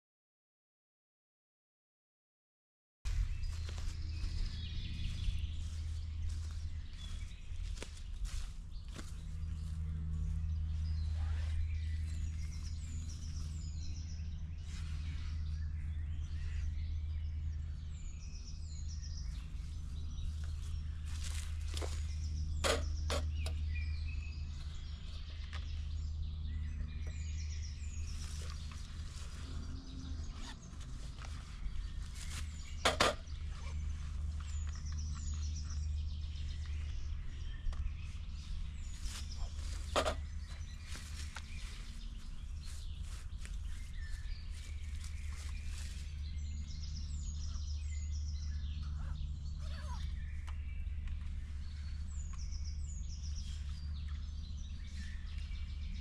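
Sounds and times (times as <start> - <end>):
steady low rumble: 3.1 - 56.0
woodland birds chirping: 3.1 - 56.0.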